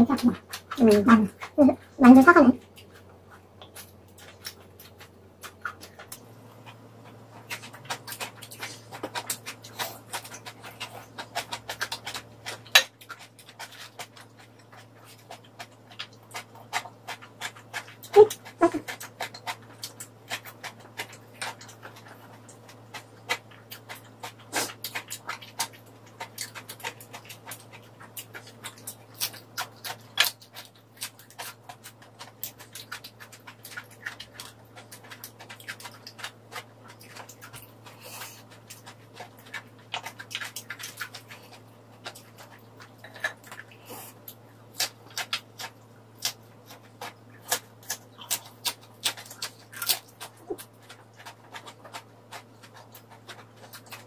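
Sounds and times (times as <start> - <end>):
wet chewing mouth sounds: 0.0 - 54.0.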